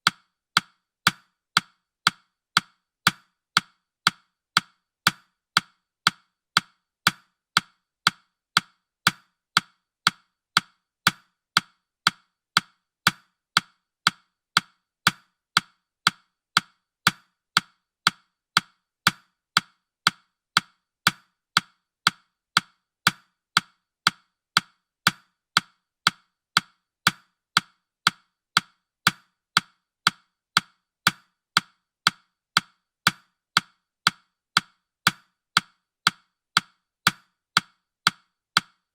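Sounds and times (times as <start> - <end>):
timer ticking: 0.0 - 38.9.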